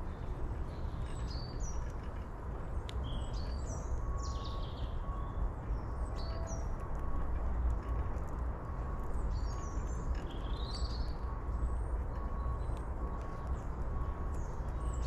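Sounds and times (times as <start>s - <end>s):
small birds chirping: 0.0s - 8.0s, 8.8s - 15.0s
low outdoor rumble: 0.0s - 15.0s.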